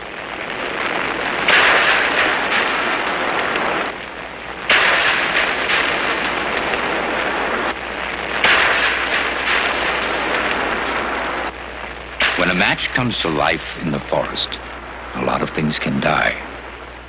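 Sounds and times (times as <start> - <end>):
match crackling burn: 0.0 - 16.8.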